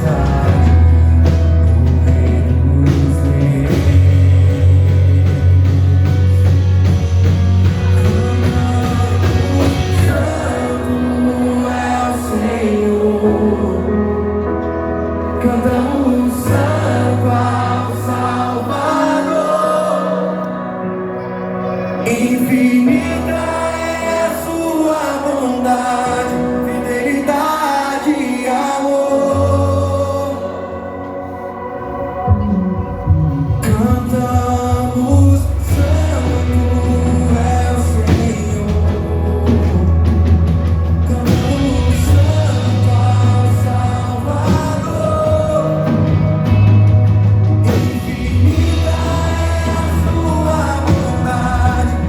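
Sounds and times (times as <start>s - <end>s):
held bass notes: 0.0s - 52.0s
praise song singing: 0.0s - 52.0s
worship band music: 0.0s - 52.0s.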